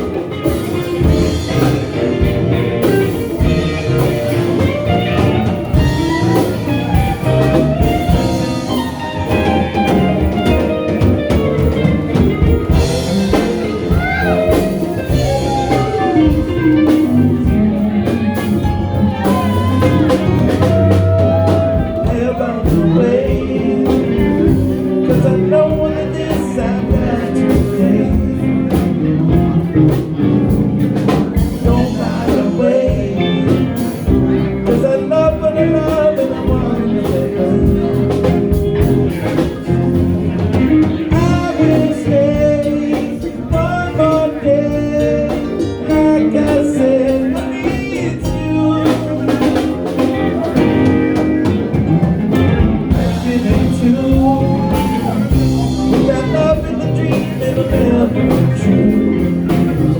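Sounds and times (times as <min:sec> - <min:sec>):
band playing blues: 0:00.0 - 0:59.9
drum kit: 0:00.0 - 0:59.9
guitar: 0:00.0 - 0:59.9.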